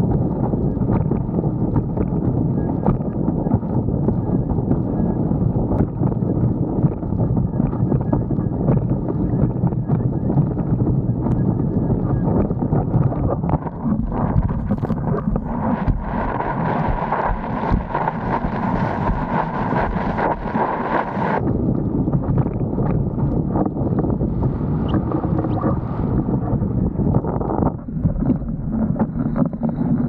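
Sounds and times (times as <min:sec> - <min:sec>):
water rushing under board: 0:00.0 - 0:30.0
wind buffeting microphone: 0:00.0 - 0:30.0.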